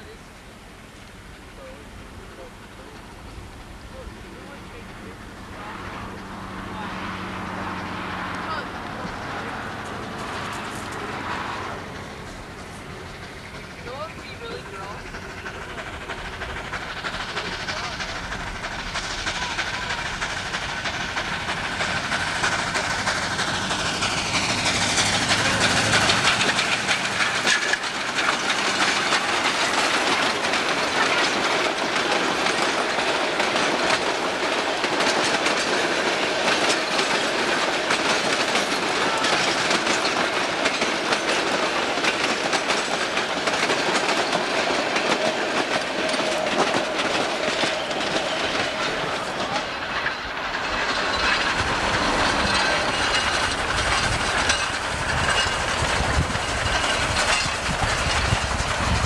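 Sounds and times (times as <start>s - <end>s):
steam locomotive rumble: 0.0s - 59.0s
train wheels clacking over rail joints: 0.7s - 59.0s.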